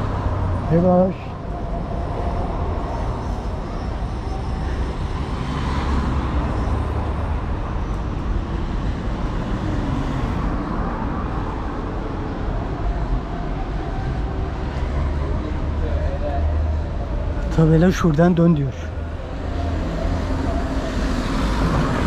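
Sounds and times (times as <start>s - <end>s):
cars driving by: 0.0s - 22.0s.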